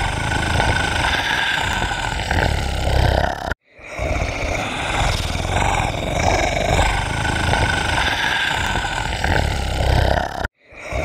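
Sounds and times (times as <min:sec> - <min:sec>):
deep rough animal growl: 0:00.0 - 0:10.5.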